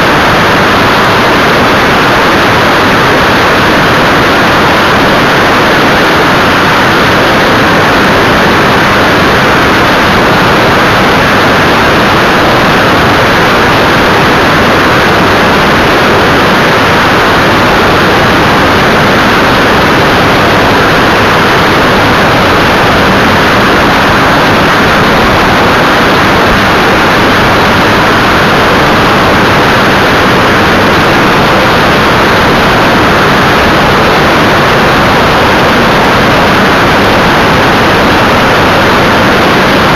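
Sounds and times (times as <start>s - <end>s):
airflow rushing over microphone: 0.0s - 39.9s
engine and propeller drone: 0.0s - 39.9s.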